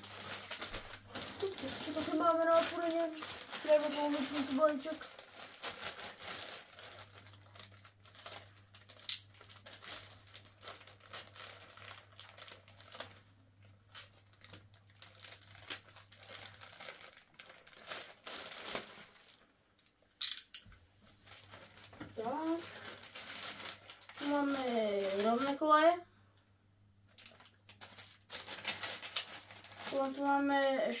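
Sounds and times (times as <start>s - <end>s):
plastic bag crinkling: 0.0s - 19.6s, 21.0s - 25.9s, 27.1s - 31.0s.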